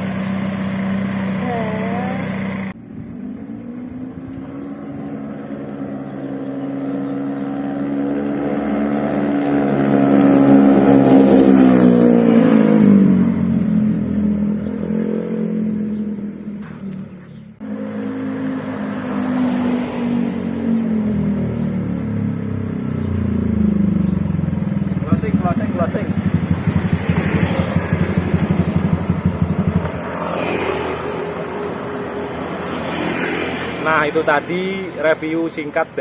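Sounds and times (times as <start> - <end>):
scooter engine accelerating: 0.0 - 36.0.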